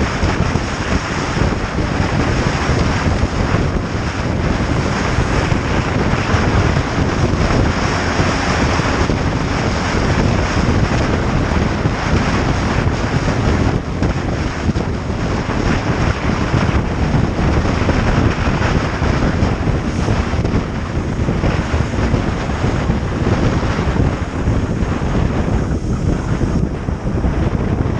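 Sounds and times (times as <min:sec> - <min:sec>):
wind rushing over microphone: 0:00.0 - 0:27.9.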